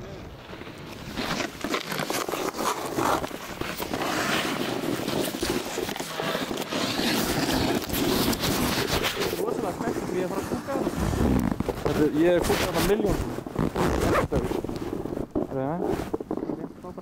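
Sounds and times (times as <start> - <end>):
wind: 0.0 - 17.0
snowboard scraping over snow: 0.1 - 16.7.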